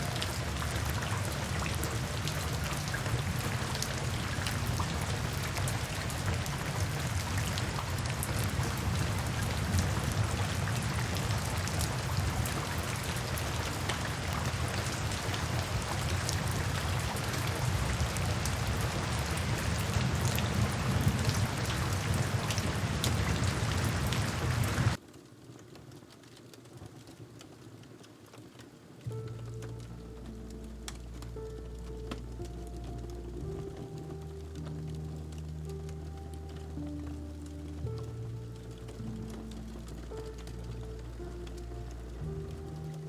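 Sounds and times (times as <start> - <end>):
heavy rain: 0.0 - 43.0
sharp ticks of raindrops: 0.0 - 43.0.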